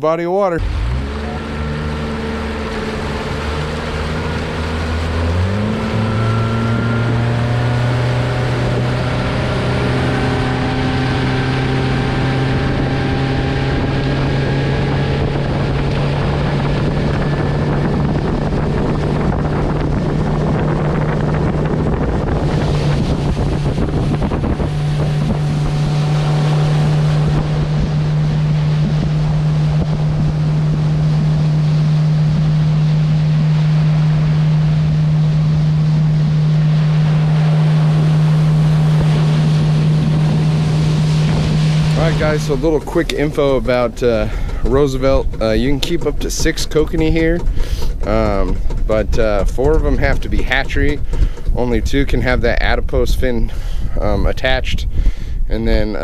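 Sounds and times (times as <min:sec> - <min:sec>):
motorboat engine running: 0:00.0 - 0:56.0
wind buffeting microphone: 0:00.0 - 0:56.0.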